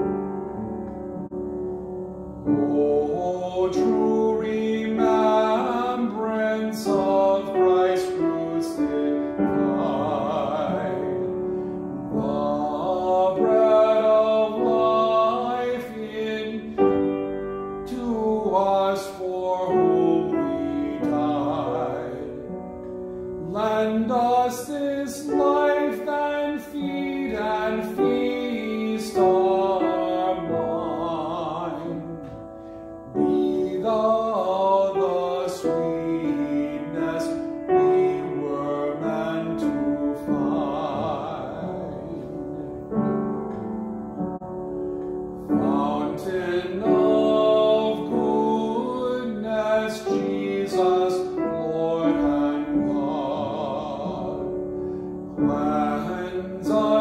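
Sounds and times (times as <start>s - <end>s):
piano accompaniment: 0.0s - 57.0s
man singing a hymn: 2.4s - 44.3s, 45.3s - 57.0s.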